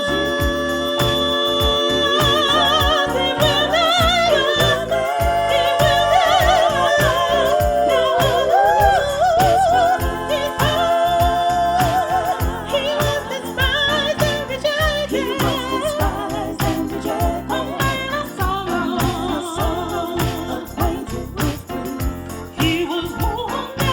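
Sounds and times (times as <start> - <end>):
accompaniment with steady beat: 0.0 - 23.9
person singing with vibrato: 0.0 - 23.9.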